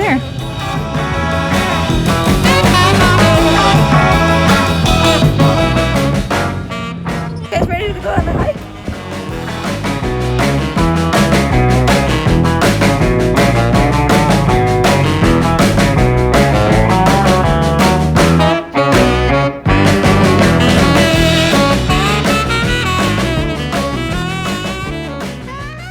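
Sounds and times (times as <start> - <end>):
upbeat music with steady beat: 0.0 - 6.8, 8.2 - 25.9.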